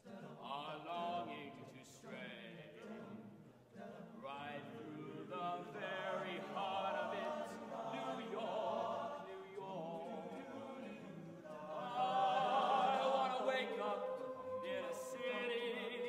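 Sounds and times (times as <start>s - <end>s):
men's choir singing a cappella: 0.0s - 16.0s.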